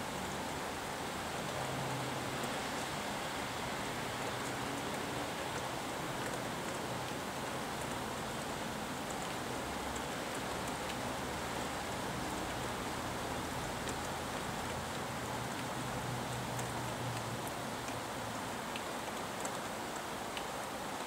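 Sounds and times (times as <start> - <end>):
rain falling: 0.0 - 21.0
sharp ticks of raindrops: 0.0 - 21.0.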